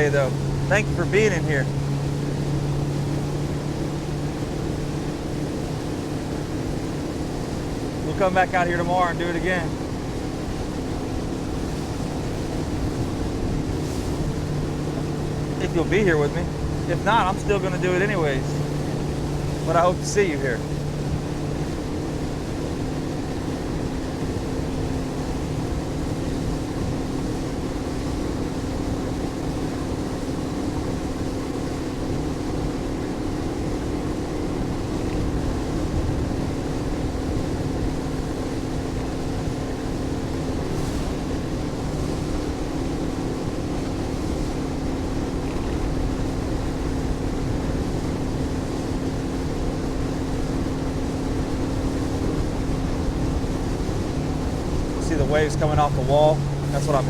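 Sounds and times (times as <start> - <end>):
motorboat engine droning: 0.0 - 57.0
water rushing: 0.0 - 57.0.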